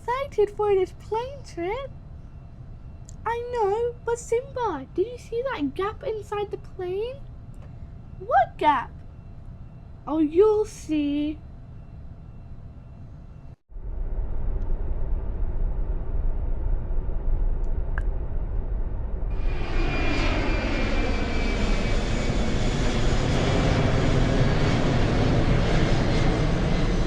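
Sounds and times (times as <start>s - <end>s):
airplane engine rumble: 0.0s - 27.0s
airplane engine whining: 0.0s - 27.0s.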